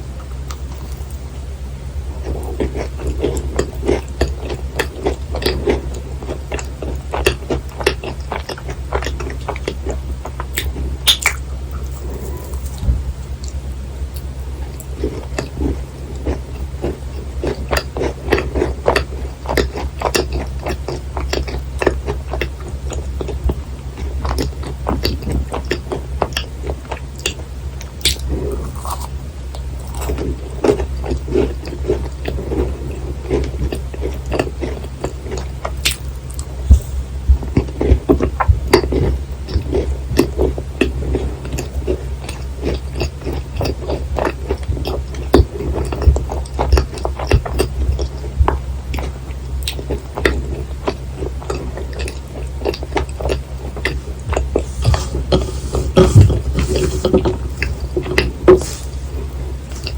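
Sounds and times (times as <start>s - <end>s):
steady low hum: 0.0s - 59.9s
chewing and biting: 0.2s - 1.2s, 2.2s - 59.9s.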